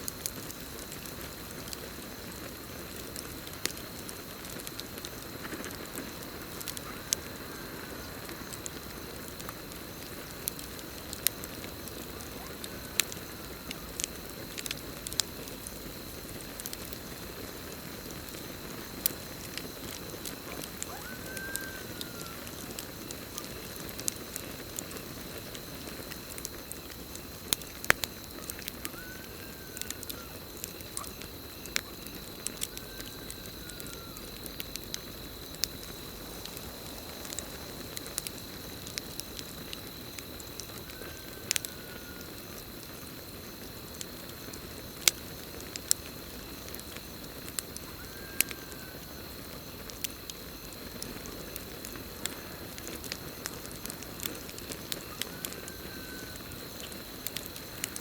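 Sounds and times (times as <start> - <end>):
campfire crackling and popping: 0.0 - 58.0
cricket trill: 0.0 - 58.0.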